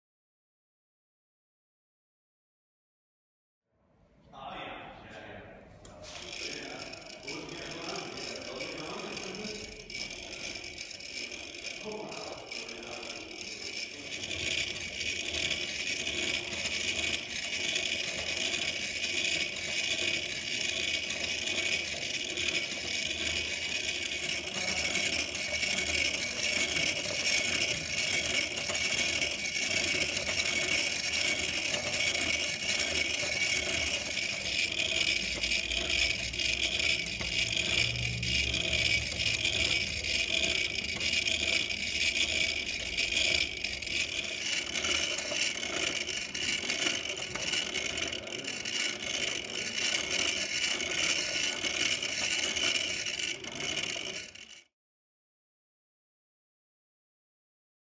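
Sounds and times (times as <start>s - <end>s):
wooden crank mechanism clicking: 5.8s - 54.7s.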